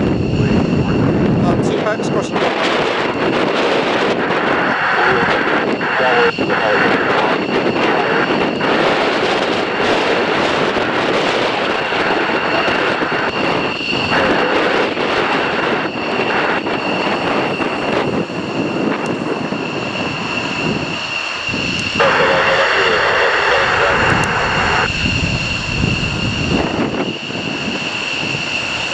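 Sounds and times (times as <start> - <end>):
high-pitched jet engine whine: 0.0 - 28.9
jet engines roaring: 0.0 - 28.9.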